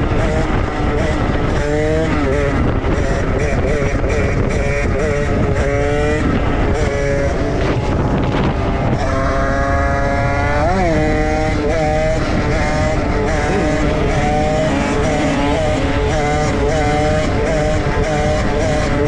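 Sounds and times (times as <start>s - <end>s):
dirt bike engines revving: 0.0s - 19.0s
wind rumble: 0.0s - 19.0s.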